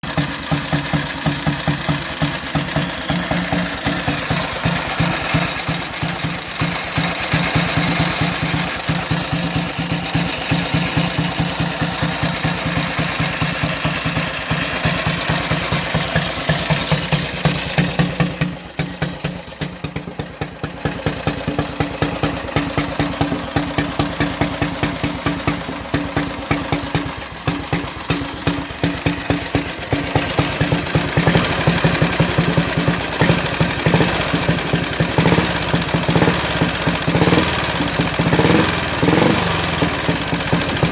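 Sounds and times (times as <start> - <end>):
single-cylinder engine idling: 0.0 - 40.9.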